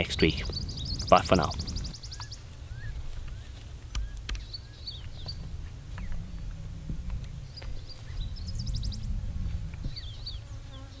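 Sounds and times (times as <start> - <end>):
steady low rumble: 0.0 - 10.6
high downward bird chirps: 0.0 - 10.8.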